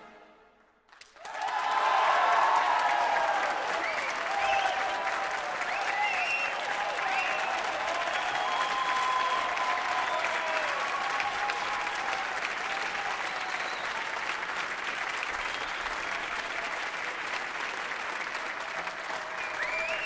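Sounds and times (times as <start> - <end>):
audience applauding: 0.9 - 20.0.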